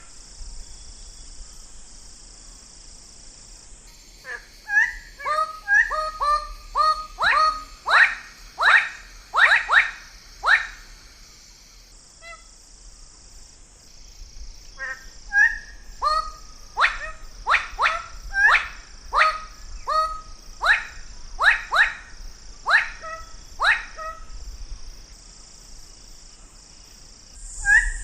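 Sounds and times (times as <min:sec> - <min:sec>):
steady high hiss: 0:00.0 - 0:28.0.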